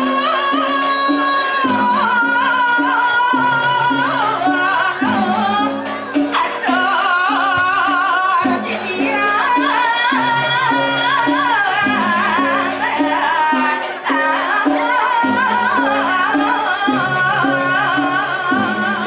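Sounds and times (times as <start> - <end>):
sung melody: 0.0 - 19.0.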